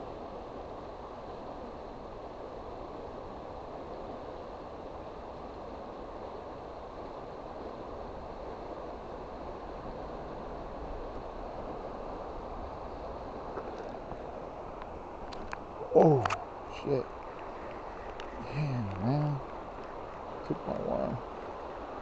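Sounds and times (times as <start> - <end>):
river water rushing: 1.1 - 22.0.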